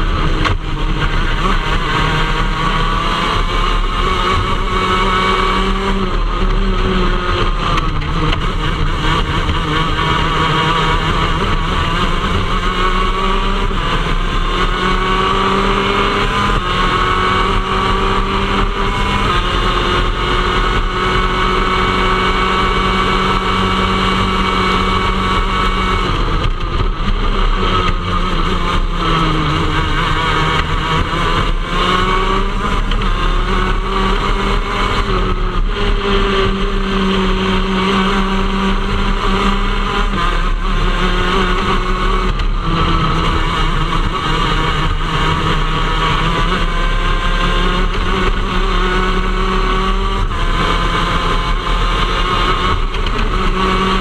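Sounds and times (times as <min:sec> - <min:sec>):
kart engine revving high: 0:00.0 - 0:54.0.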